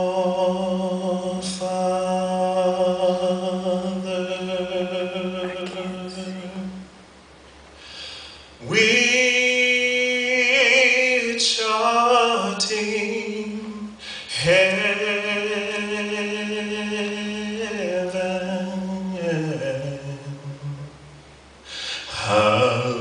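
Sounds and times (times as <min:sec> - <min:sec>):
man singing solo: 0:00.0 - 0:06.9, 0:08.6 - 0:21.1, 0:21.8 - 0:23.0.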